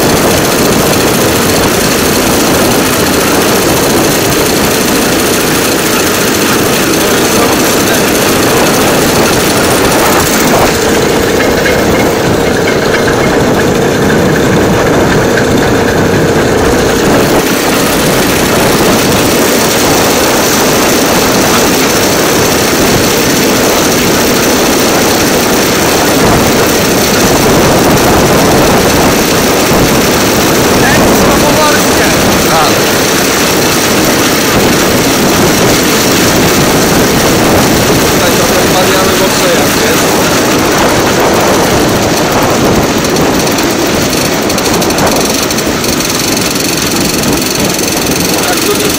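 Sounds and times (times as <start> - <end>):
rail trolley engine droning: 0.0 - 48.9.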